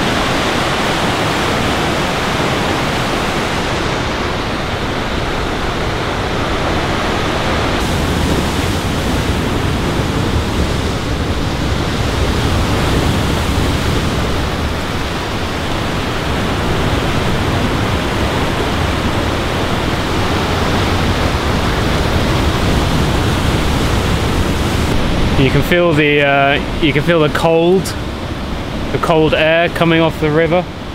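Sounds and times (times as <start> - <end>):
whitewater rushing: 0.0 - 30.9.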